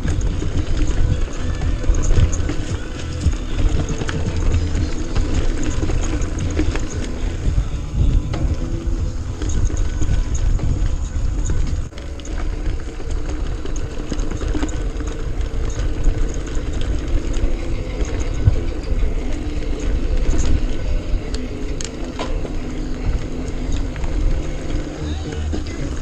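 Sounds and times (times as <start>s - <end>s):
bike clicks and rattles: 0.0s - 26.0s
tyres and wind rumble: 0.0s - 26.0s.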